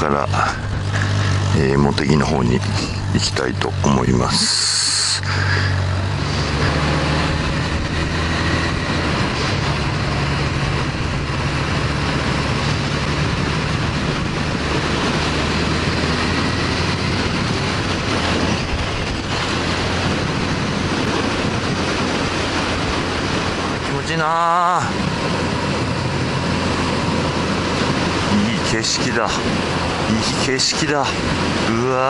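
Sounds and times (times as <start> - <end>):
motorcycle engine cruising: 0.0 - 32.0
wind and road noise on microphone: 0.0 - 32.0.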